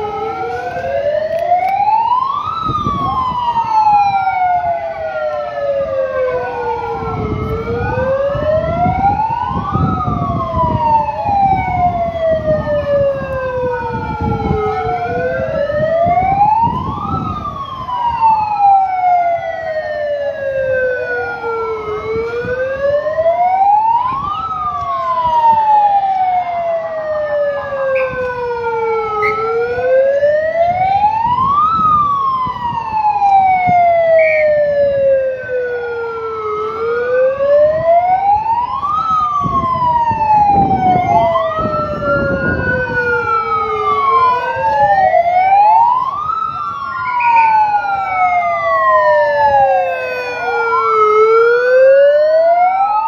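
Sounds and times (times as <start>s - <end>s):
wailing sirens: 0.0s - 53.0s.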